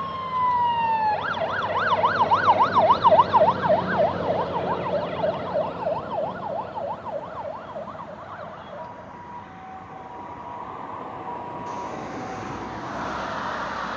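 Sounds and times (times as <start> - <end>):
faint road noise: 0.0 - 13.9
fire engine siren yelping: 0.0 - 13.9.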